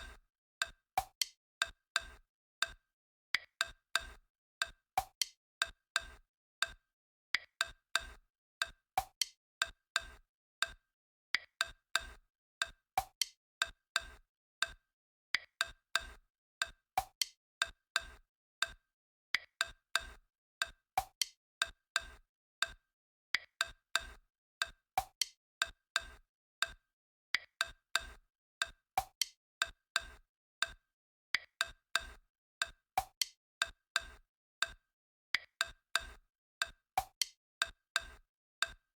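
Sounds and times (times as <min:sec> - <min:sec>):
woodblock-like clicks: 0:00.0 - 0:02.8, 0:03.4 - 0:06.8, 0:07.4 - 0:10.8, 0:11.4 - 0:14.8, 0:15.4 - 0:18.8, 0:19.4 - 0:22.8, 0:23.4 - 0:26.8, 0:27.4 - 0:30.8, 0:31.4 - 0:34.8, 0:35.4 - 0:38.8.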